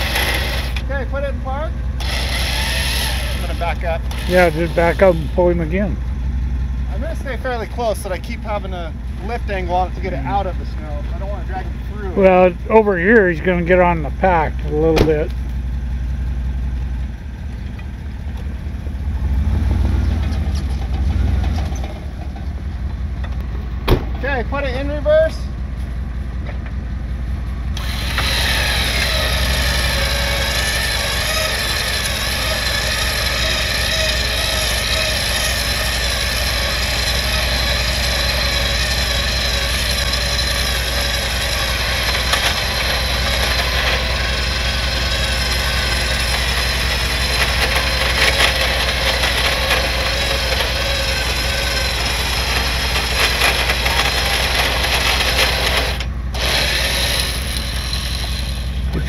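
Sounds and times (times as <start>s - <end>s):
truck engines running: 0.0s - 59.0s.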